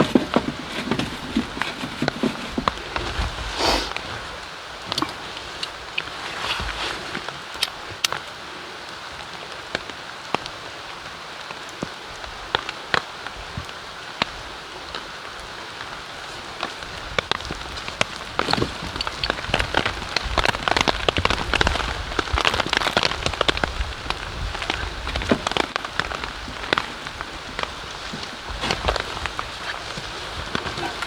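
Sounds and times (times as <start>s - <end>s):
rain falling: 0.0s - 31.0s
raindrops ticking on a surface: 4.4s - 31.0s.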